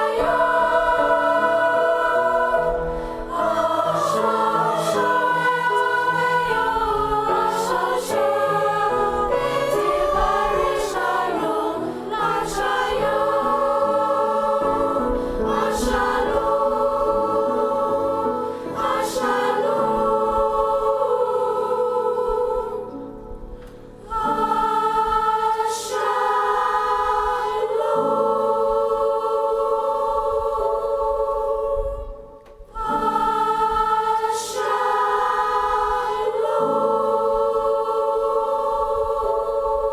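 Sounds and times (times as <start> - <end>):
choir singing sustained chords: 0.0 - 39.9.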